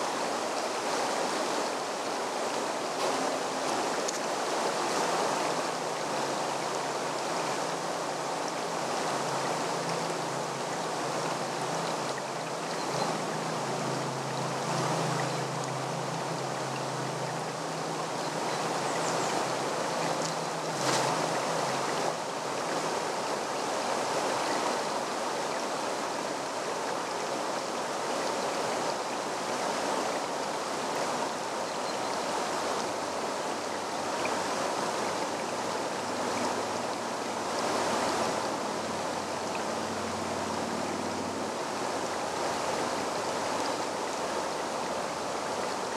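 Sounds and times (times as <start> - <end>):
stream babbling over stones: 0.0 - 45.9.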